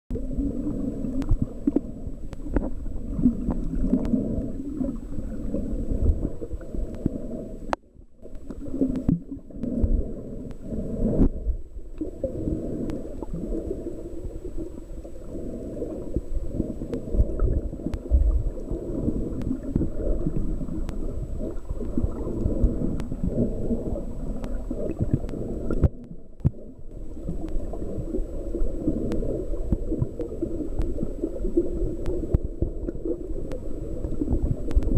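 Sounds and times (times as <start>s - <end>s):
underwater rumble and gurgling: 0.1s - 34.9s.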